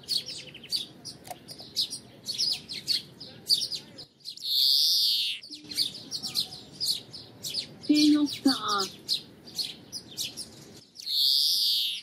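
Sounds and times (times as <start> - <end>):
finch twittering song: 0.0 - 12.0.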